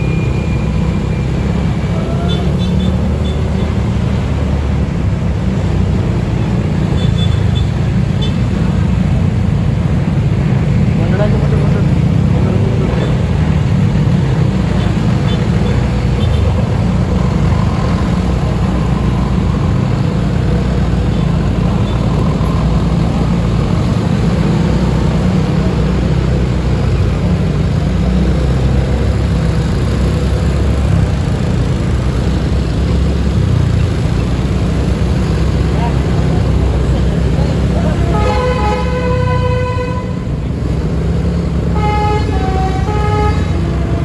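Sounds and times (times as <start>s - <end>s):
motor vehicle rumbling: 0.0s - 44.0s.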